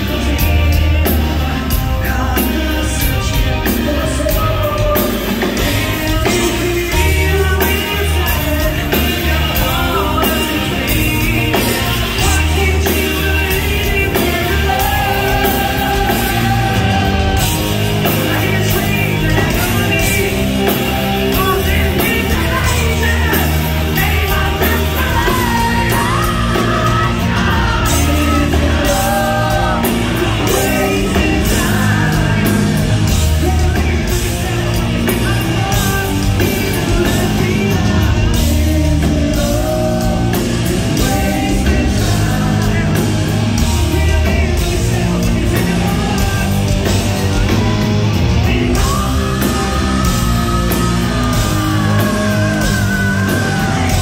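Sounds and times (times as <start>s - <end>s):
live rock band playing: 0.0s - 54.0s
man singing: 0.0s - 54.0s.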